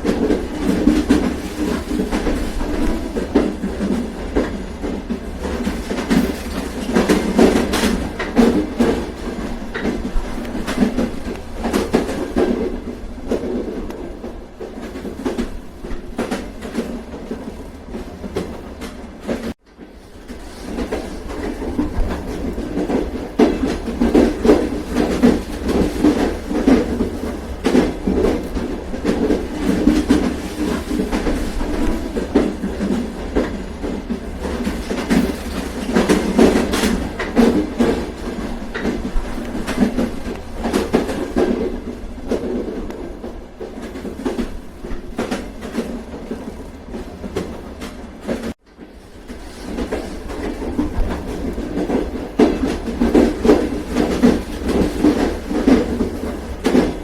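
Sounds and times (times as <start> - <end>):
train rumbling along track: 0.0 - 57.0
wheels clacking over rail joints: 0.0 - 57.0.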